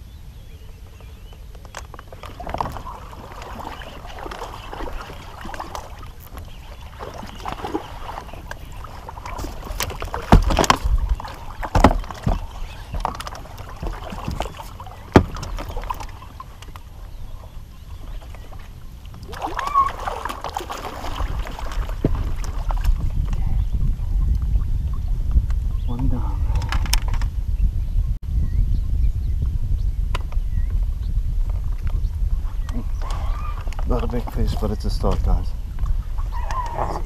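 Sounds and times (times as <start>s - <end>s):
water splashing against boat: 0.9s - 27.2s, 31.5s - 37.0s.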